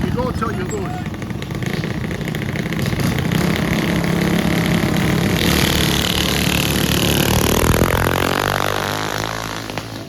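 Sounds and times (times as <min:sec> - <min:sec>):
high-pitched engine whine: 0:00.0 - 0:10.0
mini bike engines racing: 0:00.0 - 0:10.0.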